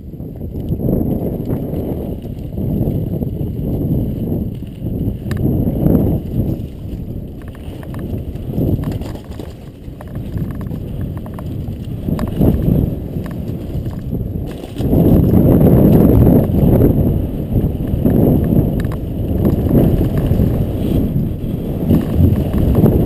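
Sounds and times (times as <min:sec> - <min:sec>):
bike tyre noise: 0:00.0 - 0:23.0
wind rumbling on microphone: 0:00.0 - 0:23.0
bike rattling clicks: 0:00.2 - 0:23.0.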